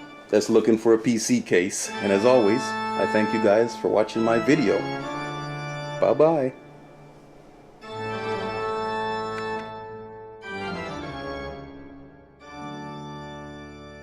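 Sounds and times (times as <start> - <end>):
long held music chords: 0.0 - 14.0.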